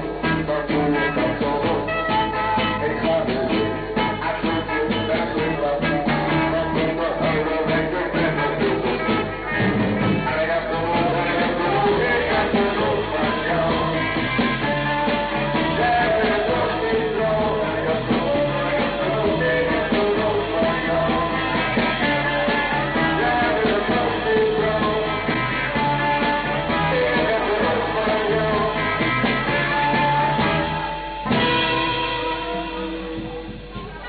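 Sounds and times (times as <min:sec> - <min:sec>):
person singing: 0:00.0 - 0:34.0
rock band playing: 0:00.0 - 0:34.0.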